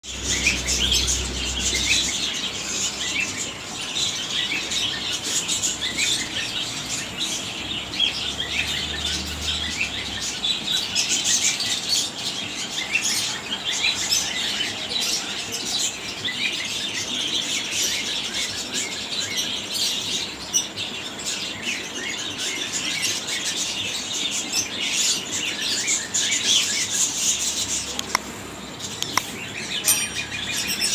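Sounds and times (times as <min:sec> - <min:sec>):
caged birds chirping: 0:00.0 - 0:30.9.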